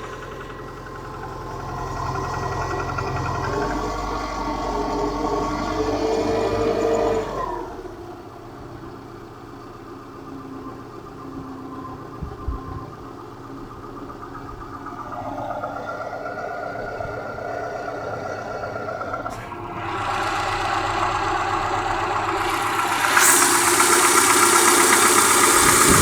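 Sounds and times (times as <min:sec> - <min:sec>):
engine knocking and revving: 0:00.0 - 0:11.3, 0:11.9 - 0:26.0.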